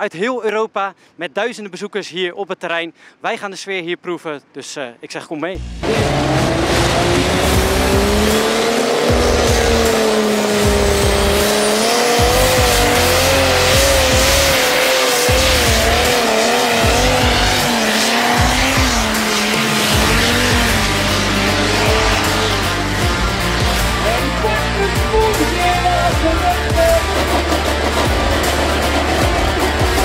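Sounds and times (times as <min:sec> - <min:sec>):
background music: 0:05.6 - 0:30.0
tractor engine running flat out: 0:05.6 - 0:30.0.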